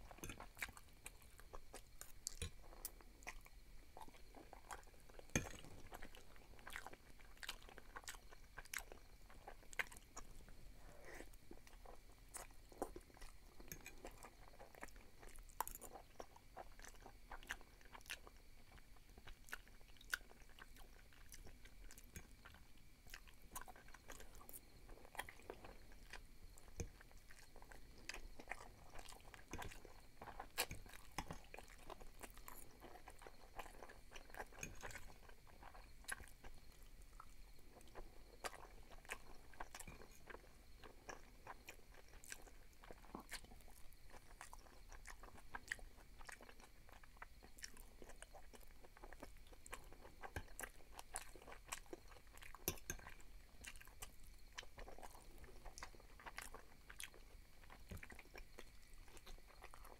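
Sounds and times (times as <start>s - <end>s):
chewing soft pasta: 0.0s - 59.9s.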